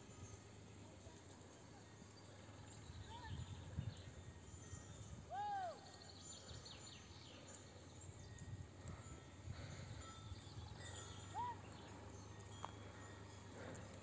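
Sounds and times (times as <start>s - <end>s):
faint open-air ambience: 0.0s - 14.0s.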